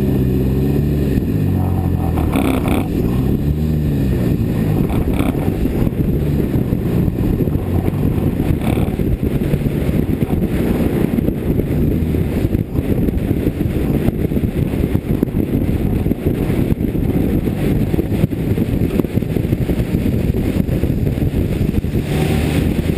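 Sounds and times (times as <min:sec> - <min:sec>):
race car engine running: 0:00.0 - 0:22.9
wind rumble on microphone: 0:00.0 - 0:22.9.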